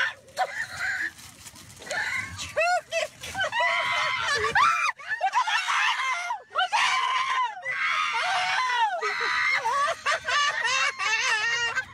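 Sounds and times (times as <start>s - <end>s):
women shrieking: 1.8s - 11.9s.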